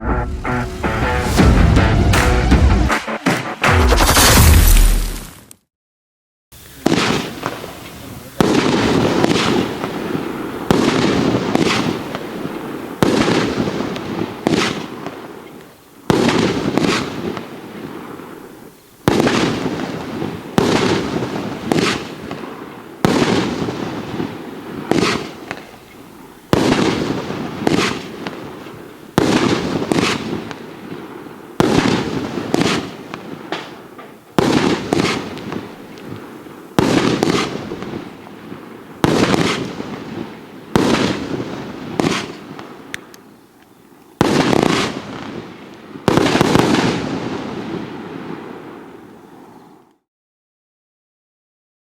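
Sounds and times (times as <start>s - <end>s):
fireworks shots crackling: 2.2s - 5.5s, 6.6s - 15.2s, 16.1s - 18.2s, 19.0s - 43.2s, 44.2s - 45.4s, 46.0s - 48.5s.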